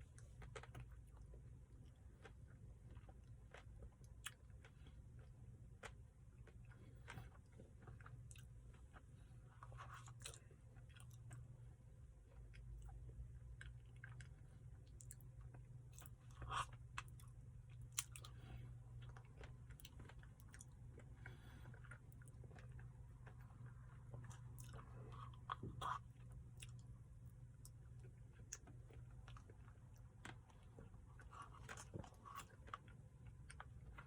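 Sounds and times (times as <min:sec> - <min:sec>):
person chewing: 0:00.2 - 0:11.6, 0:12.3 - 0:34.0.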